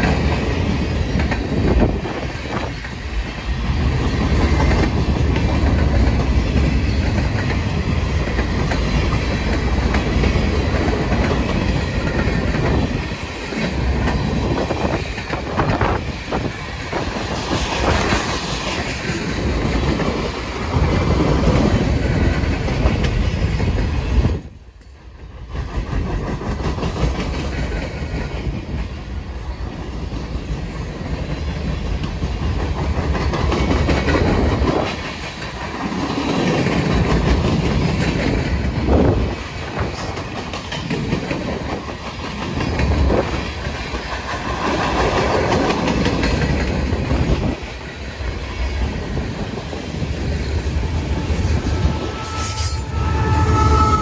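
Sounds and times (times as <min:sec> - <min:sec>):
steel wheels clattering on rail: 0:00.0 - 0:54.0.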